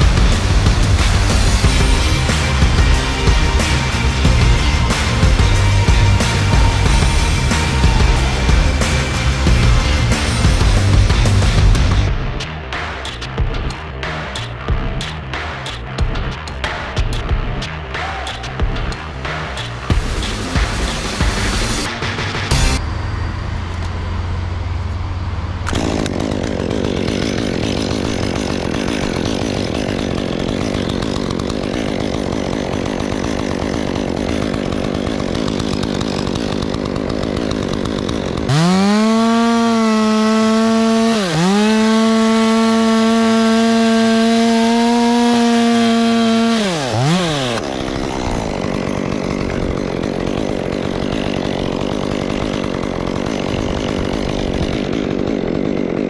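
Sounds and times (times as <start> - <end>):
chainsaw cutting wood: 0.0 - 22.8, 24.7 - 56.0.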